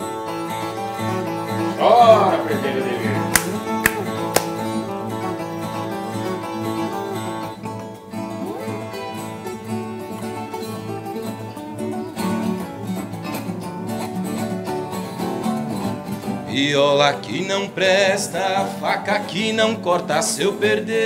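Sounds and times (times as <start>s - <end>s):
folk guitar picked melody: 0.0s - 21.0s.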